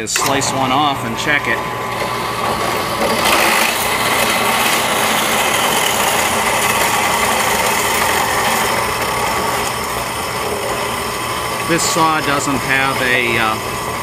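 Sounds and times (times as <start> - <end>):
band saw cutting metal: 0.0 - 14.0.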